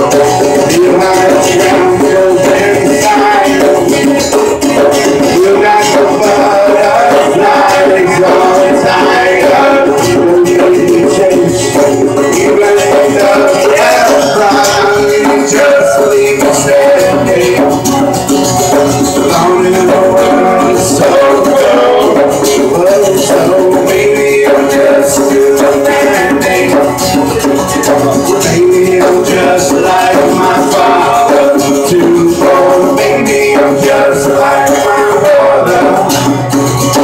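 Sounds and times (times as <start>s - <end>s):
acoustic guitars playing: 0.0s - 37.0s
hand percussion: 0.0s - 37.0s.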